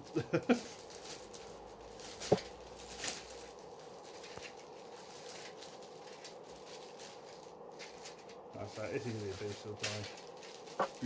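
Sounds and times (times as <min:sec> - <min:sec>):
low room hum: 0:00.0 - 0:11.0
plastic parts and bags rustling: 0:00.0 - 0:11.0.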